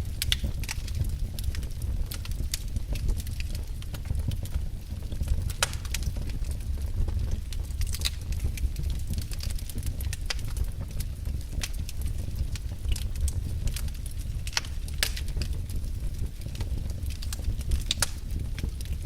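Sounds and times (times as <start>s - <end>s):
fire crackles and pops: 0.0s - 19.0s
fire flames rumbling: 0.0s - 19.0s.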